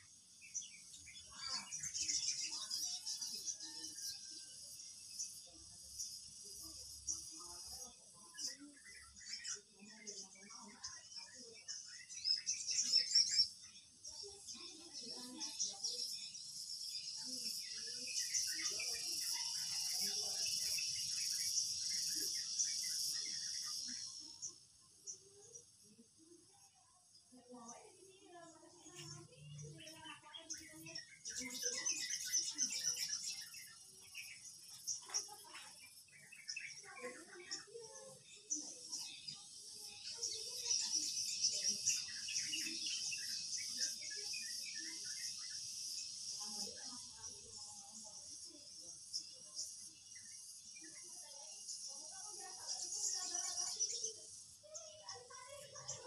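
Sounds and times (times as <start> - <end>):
faint insect chirps: 0.0 - 56.0
high-pitched insect chorus: 0.3 - 26.7, 28.4 - 56.0.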